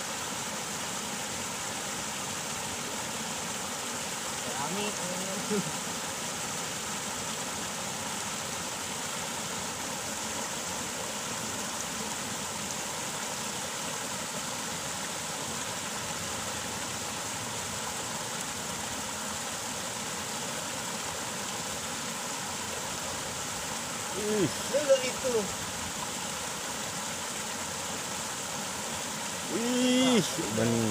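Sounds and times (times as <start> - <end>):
water rushing over weir: 0.0 - 30.9.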